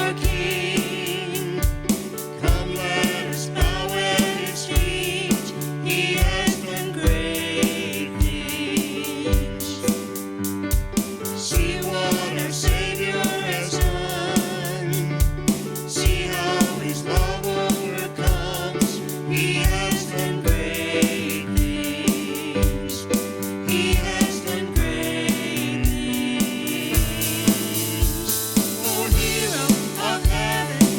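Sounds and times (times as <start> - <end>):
gospel worship band music: 0.0 - 30.9
steady drum beat: 0.0 - 30.9.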